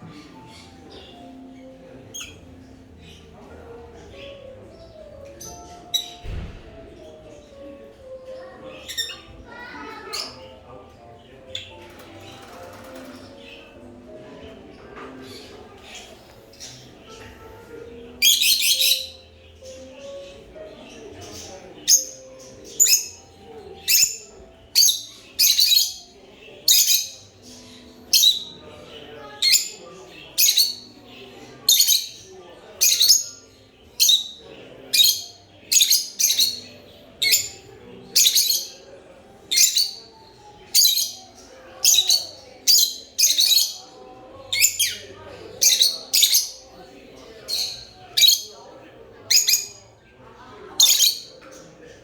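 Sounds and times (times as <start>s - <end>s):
lovebirds chirping: 0.0s - 46.7s, 47.3s - 48.6s, 49.2s - 50.0s, 50.8s - 51.4s.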